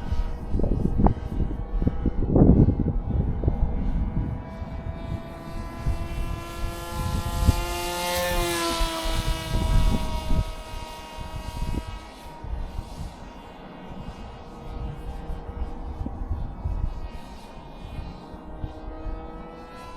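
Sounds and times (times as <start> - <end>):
model plane motor whining: 0.0 - 19.9
wind buffeting microphone: 0.0 - 19.9.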